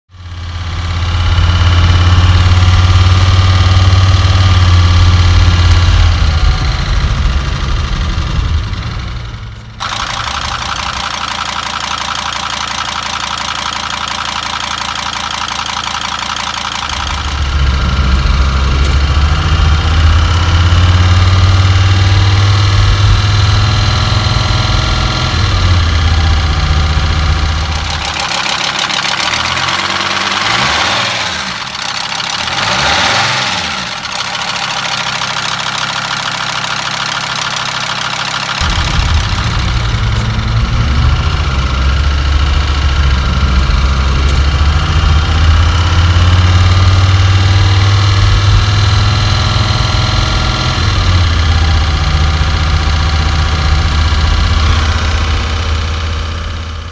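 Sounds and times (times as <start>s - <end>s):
engine revving: 0.1s - 56.9s
engine running with clanking: 0.1s - 56.9s.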